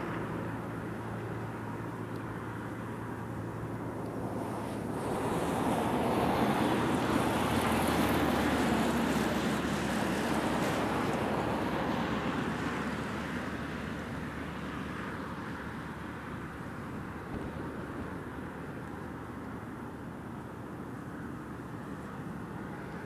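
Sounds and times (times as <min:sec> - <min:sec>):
jet engines passing overhead: 0:00.0 - 0:23.0.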